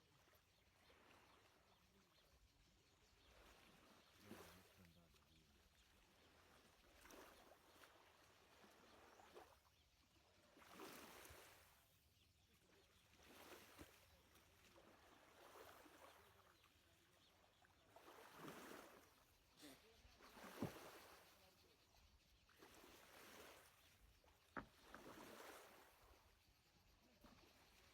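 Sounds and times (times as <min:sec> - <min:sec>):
lake water lapping: 0:00.0 - 0:27.9.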